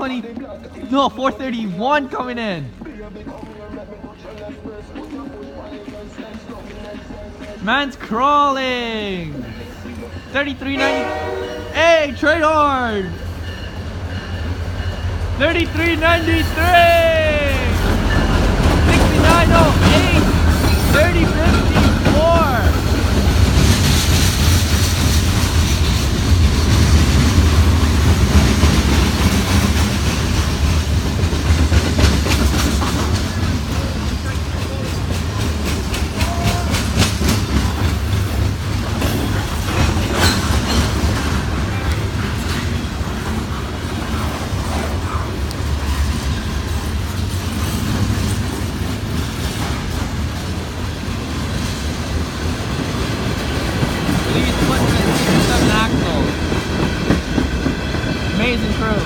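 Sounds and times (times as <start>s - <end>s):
train wheels rumbling on rails: 2.4s - 59.0s.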